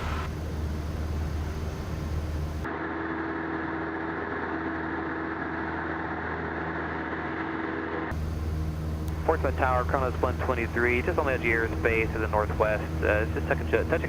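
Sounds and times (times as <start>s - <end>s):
airplane engine and propeller droning: 0.0s - 14.0s.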